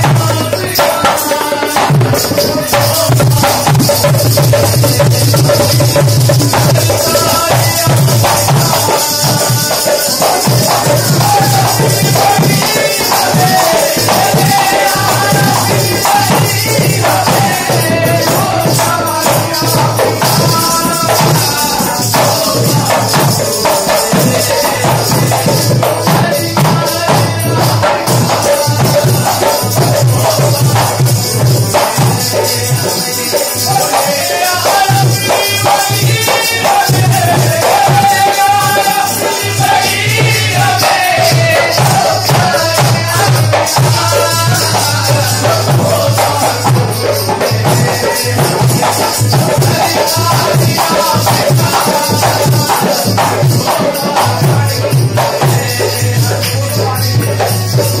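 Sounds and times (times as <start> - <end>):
drum beat: 0.0 - 58.0
harmonium: 0.0 - 58.0
jingling percussion: 0.0 - 58.0
person singing: 0.0 - 58.0.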